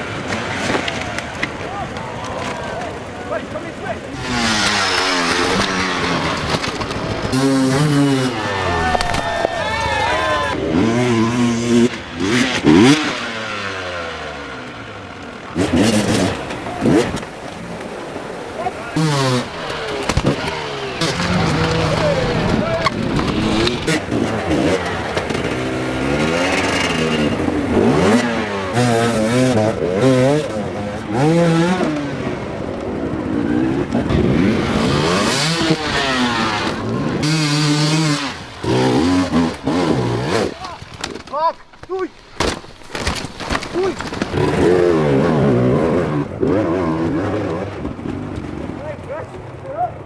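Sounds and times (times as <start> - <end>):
dirt bike engine revving: 0.0 - 3.0, 3.8 - 41.4, 42.8 - 49.1.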